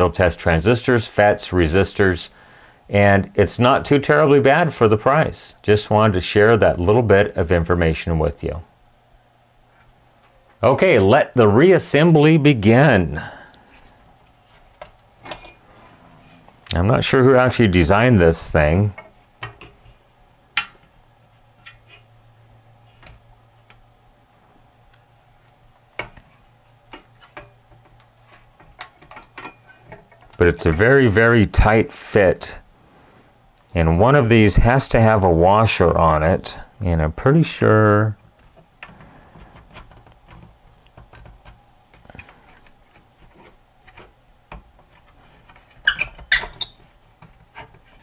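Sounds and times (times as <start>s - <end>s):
faint low hum: 0.0s - 48.0s.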